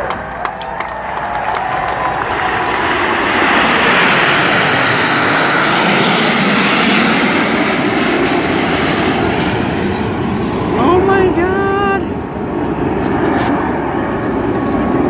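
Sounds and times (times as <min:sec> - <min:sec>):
jets roaring overhead: 0:00.0 - 0:15.0.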